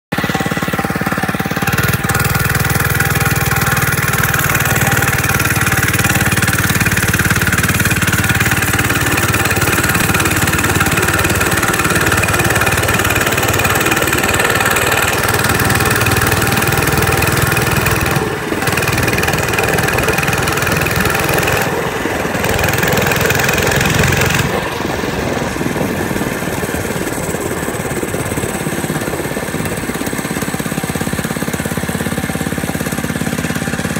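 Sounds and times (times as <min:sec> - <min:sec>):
small bike engine running: 0:00.0 - 0:33.9.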